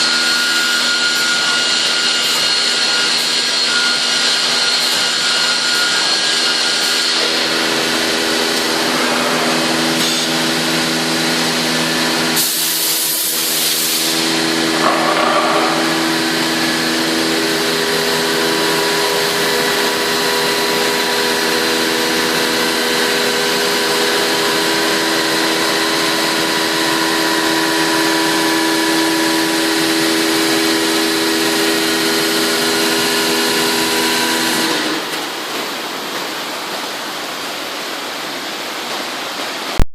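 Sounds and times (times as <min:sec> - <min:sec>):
router spindle cutting wood: 0:00.0 - 0:12.5, 0:14.1 - 0:35.0.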